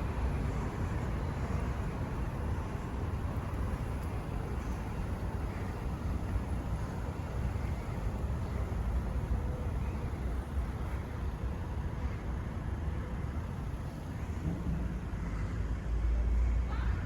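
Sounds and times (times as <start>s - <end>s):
low rumble of road traffic: 0.0s - 17.0s.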